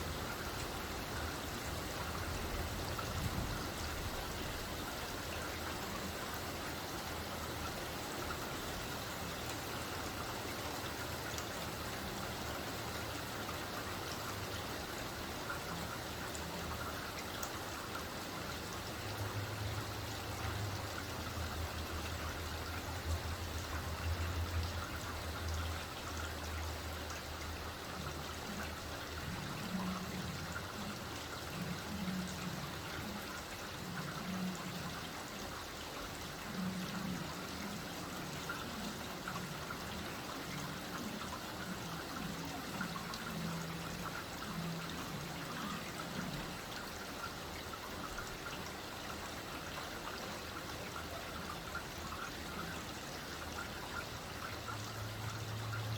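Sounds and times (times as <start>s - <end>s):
light rain falling: 0.0s - 55.9s.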